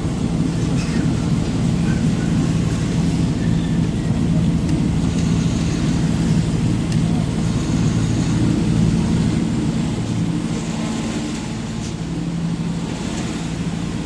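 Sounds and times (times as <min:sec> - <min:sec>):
road noise: 0:00.0 - 0:14.0
truck engine droning: 0:00.0 - 0:14.0.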